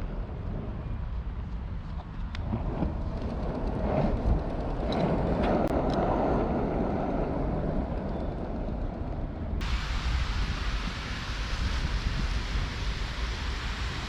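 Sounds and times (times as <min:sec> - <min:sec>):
skateboard wheels rumbling on pavement: 0:00.0 - 0:14.0
wind on the microphone: 0:00.0 - 0:14.0.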